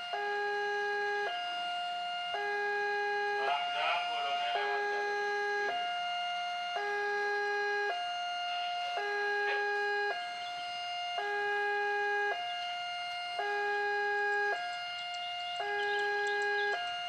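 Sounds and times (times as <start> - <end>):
level crossing alarm two-tone: 0.0 - 17.0.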